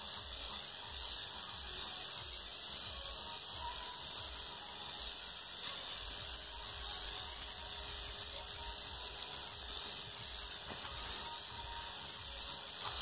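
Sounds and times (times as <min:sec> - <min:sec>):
sprayer hissing: 0:00.0 - 0:13.0.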